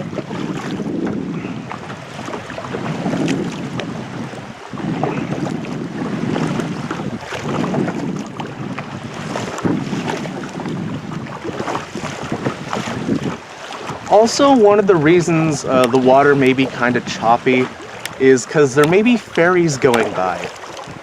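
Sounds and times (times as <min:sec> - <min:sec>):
water splashing against kayak: 0:00.0 - 0:21.0
wind rumbling on microphone: 0:00.0 - 0:21.0.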